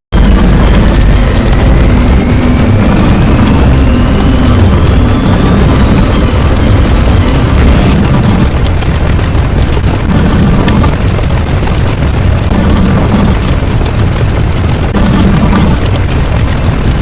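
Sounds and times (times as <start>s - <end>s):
layered explosions rumbling: 0.1s - 17.0s.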